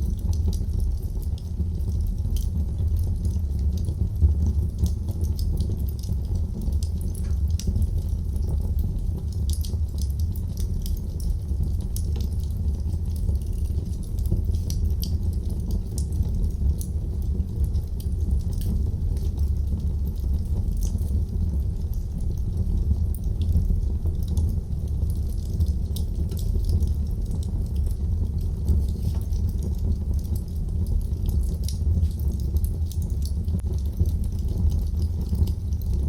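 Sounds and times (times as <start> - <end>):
fire crackles and pops: 0.0 - 36.0
low rumble of flames: 0.0 - 36.0.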